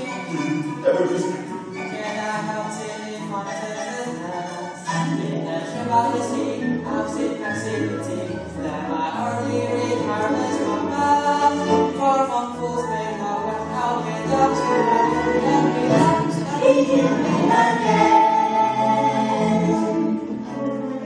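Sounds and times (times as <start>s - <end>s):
group of voices singing: 0.0s - 21.0s
instrumental accompaniment: 0.0s - 21.0s.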